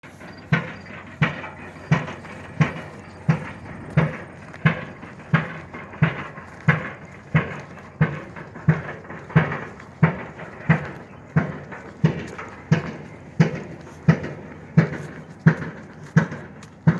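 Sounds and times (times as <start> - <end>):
pile driver hammer banging: 0.0 - 16.9.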